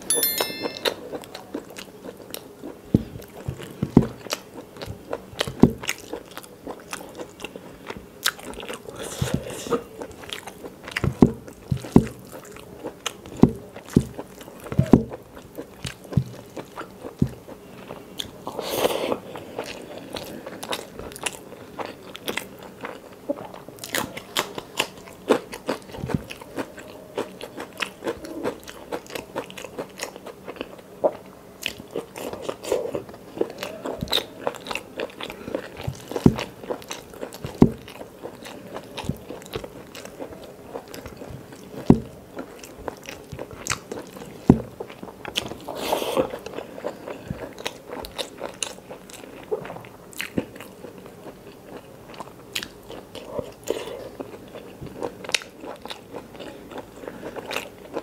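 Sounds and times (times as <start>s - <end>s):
person chewing and crunching: 1.6s - 58.0s.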